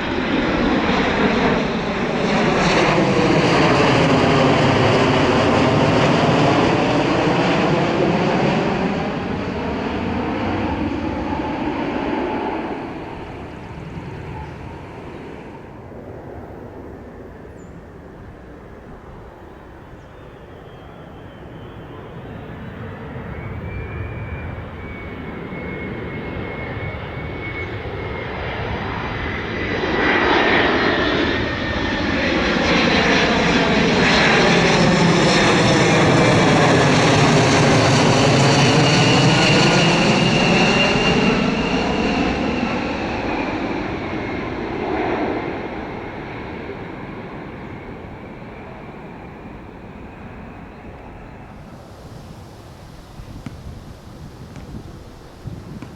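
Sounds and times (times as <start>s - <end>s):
jet engines passing with whine: 0.0s - 55.9s.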